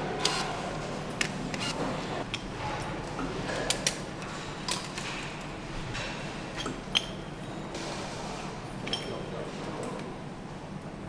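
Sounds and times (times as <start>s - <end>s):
factory hum: 0.0s - 11.0s.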